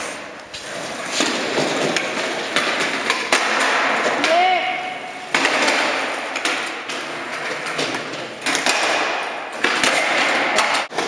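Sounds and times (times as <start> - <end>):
skateboard wheels rolling on concrete: 0.0 - 11.0
skateboard deck slapping down: 1.1 - 4.6, 5.3 - 11.0.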